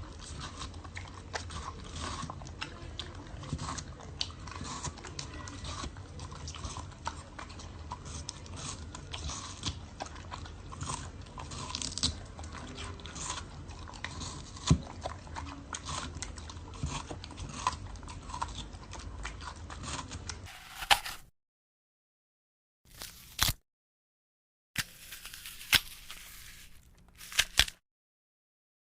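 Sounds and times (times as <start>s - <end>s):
animal chewing and crunching food: 0.0s - 21.3s, 24.8s - 27.8s.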